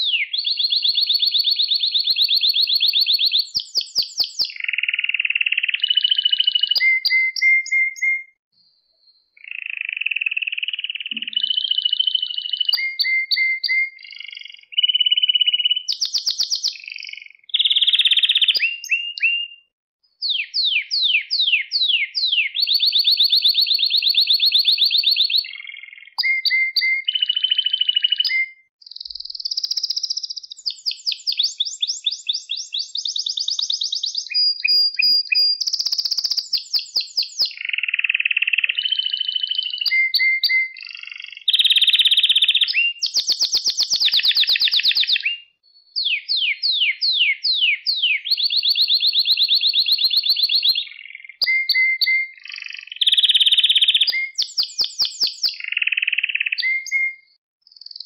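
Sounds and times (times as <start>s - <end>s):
canary singing trills: 0.0s - 8.4s, 9.2s - 58.0s.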